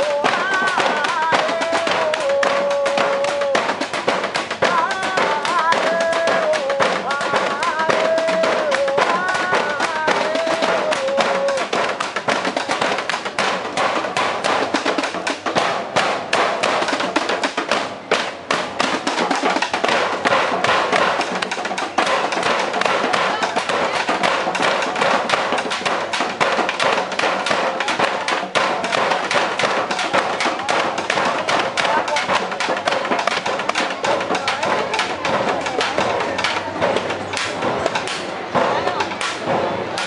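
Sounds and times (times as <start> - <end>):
rapid percussive knocking: 0.0 - 40.0.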